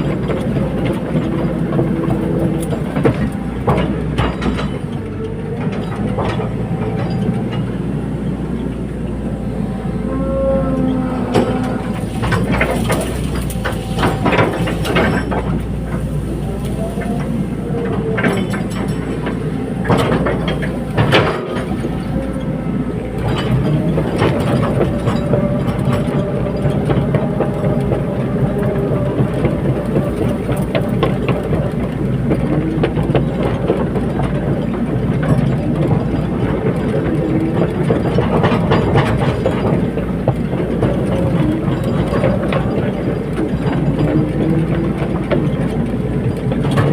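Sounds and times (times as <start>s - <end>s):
excavator diesel engine: 0.0s - 46.9s
hydraulic whine: 0.0s - 46.9s
metallic clanks and knocks: 0.0s - 46.9s.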